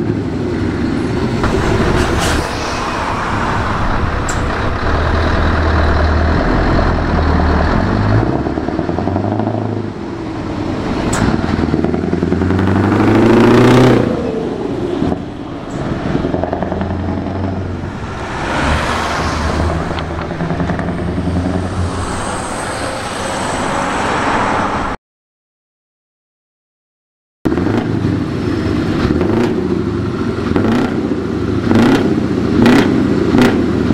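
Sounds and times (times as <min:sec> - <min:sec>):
truck engine accelerating: 0:00.0 - 0:25.0, 0:27.5 - 0:33.9.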